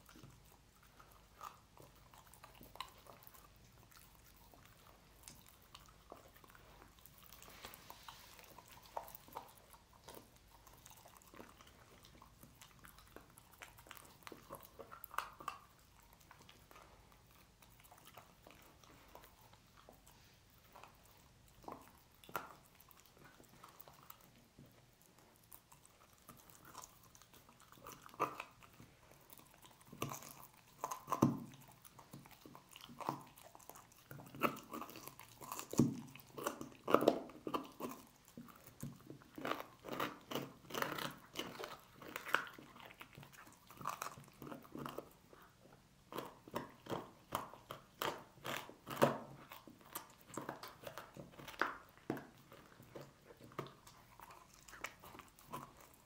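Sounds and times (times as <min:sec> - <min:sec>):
dog gnawing on bones: 0:00.0 - 0:56.0.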